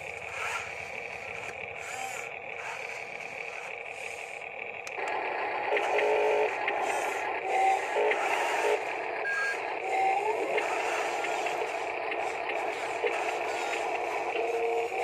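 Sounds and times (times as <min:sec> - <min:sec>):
toy vehicle motor whirring: 0:00.0 - 0:15.0.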